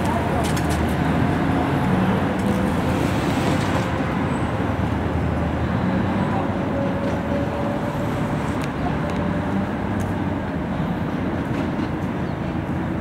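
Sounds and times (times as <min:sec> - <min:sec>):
diesel locomotive engine rumbling: 0:00.0 - 0:13.0
rail cars rolling on track: 0:00.0 - 0:13.0.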